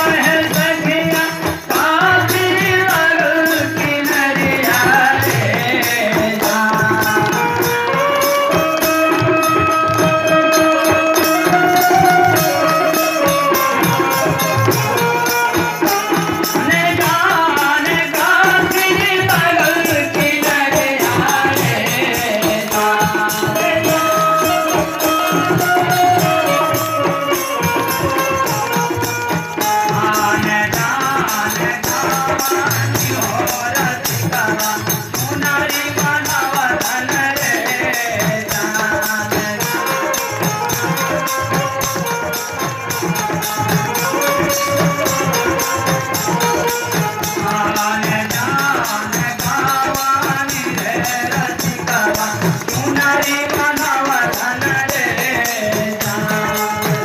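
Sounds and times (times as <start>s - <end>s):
hand drum: 0.0s - 57.0s.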